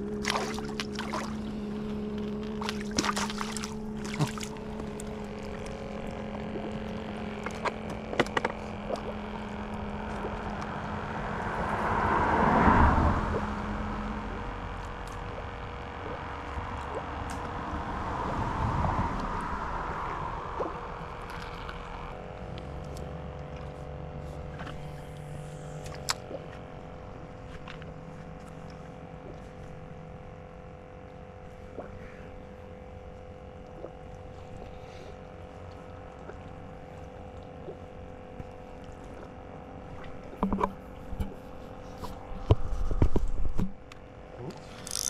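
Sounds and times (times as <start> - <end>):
motor whine: 0.0 - 45.0
small motor humming: 0.0 - 45.0.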